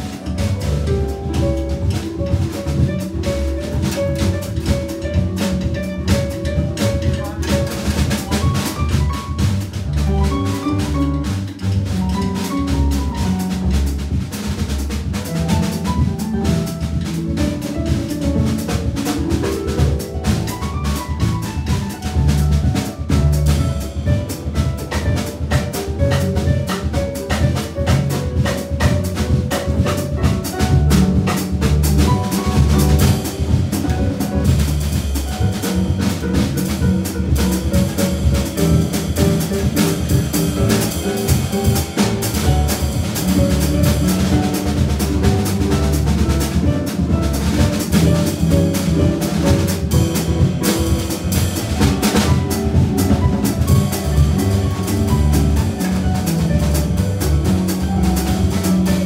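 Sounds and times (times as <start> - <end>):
drum kit beat: 0.0 - 59.0
walking double bass line: 0.0 - 59.0.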